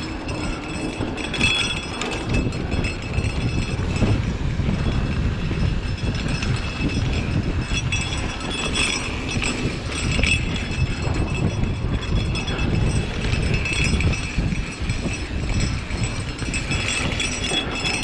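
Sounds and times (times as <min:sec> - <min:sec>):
bike clinks and rattles: 0:00.0 - 0:18.0
bike tyres rumbling on dirt: 0:00.0 - 0:18.0
wind on microphone: 0:00.0 - 0:18.0.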